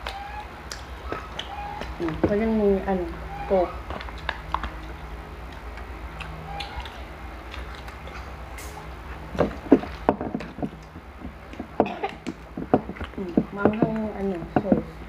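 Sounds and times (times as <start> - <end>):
low hum: 0.0 - 15.0
mouth sounds eating: 0.0 - 15.0.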